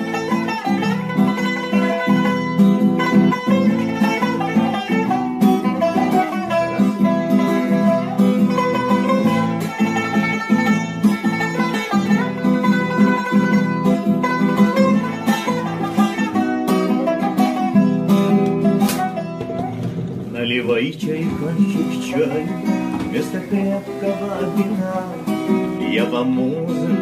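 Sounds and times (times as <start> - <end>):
plucked string music: 0.0 - 27.0.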